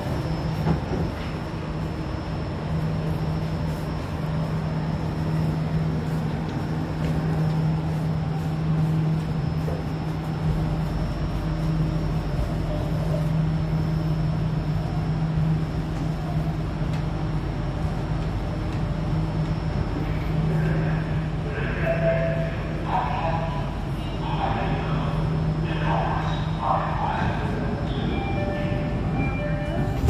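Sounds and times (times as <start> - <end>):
low drone of train equipment: 0.0 - 30.0.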